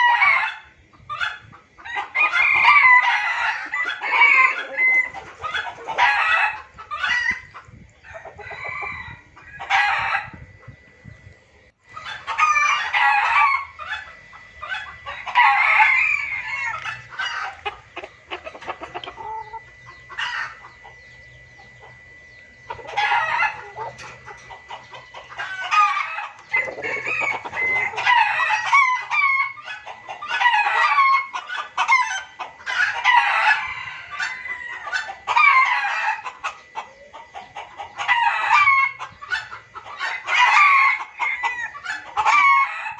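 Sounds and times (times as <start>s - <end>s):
junglefowl clucking and cackling: 0.0s - 10.9s, 11.8s - 42.9s.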